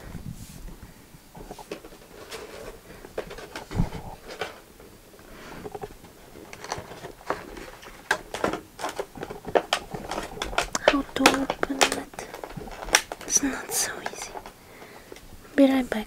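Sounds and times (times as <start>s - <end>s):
plastic tray crackling: 1.4s - 15.3s.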